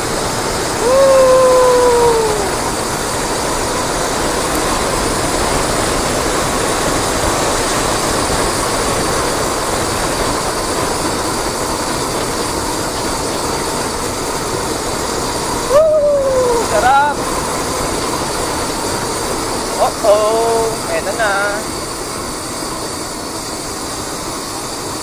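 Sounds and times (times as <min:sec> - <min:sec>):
wind on microphone: 0:00.0 - 0:22.8.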